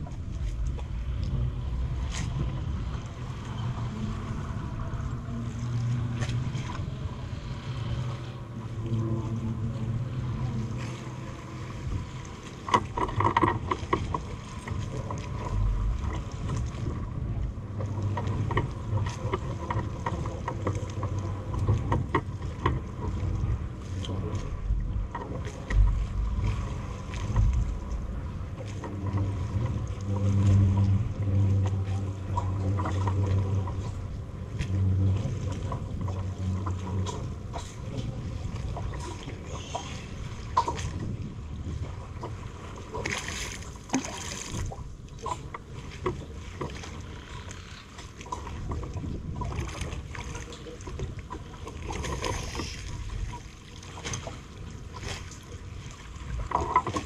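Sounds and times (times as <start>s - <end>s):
boat engine droning: 0.0s - 57.0s
wind on microphone: 0.0s - 57.0s.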